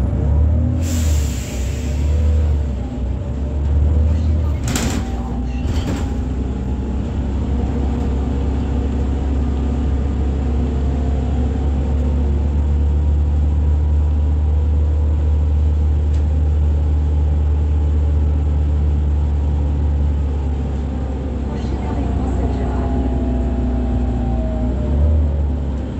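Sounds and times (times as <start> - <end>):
bus engine rumble: 0.0 - 25.9.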